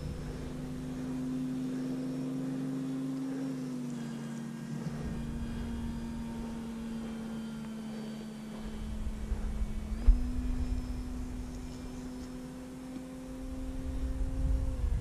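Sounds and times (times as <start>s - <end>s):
wind buffeting microphone: 0.0s - 2.8s, 4.4s - 15.0s
model plane motor and propeller drone: 0.0s - 15.0s.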